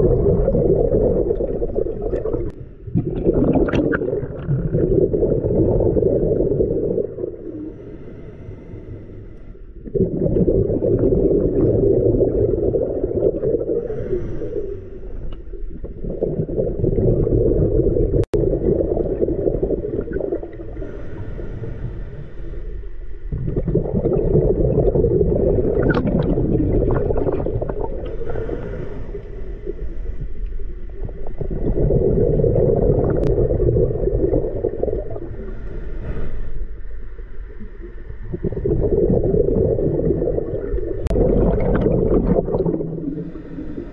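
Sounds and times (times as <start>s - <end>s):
underwater exhaled air bubbling: 0.0s - 43.9s.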